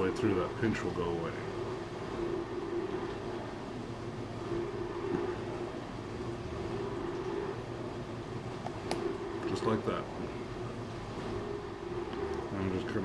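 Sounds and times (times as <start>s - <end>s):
droning mechanical hum: 0.0s - 13.0s.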